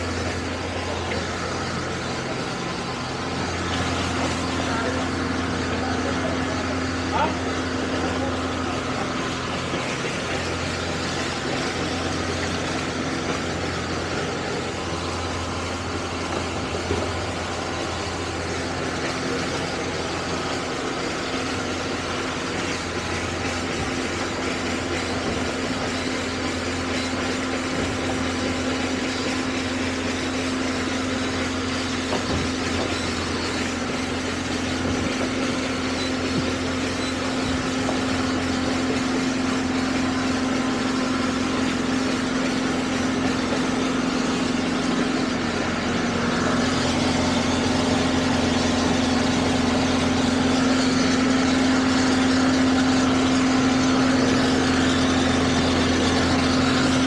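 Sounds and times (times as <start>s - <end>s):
outboard motors humming: 0.0s - 57.0s.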